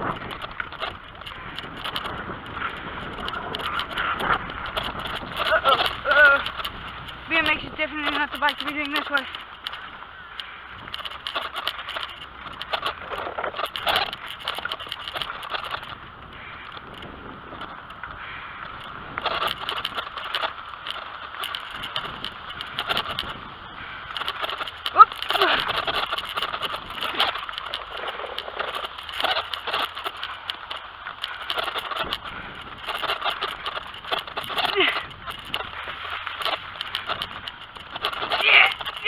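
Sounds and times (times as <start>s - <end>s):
bike rattling clicks: 0.0s - 39.0s
tyres crunching on dirt: 0.0s - 39.0s.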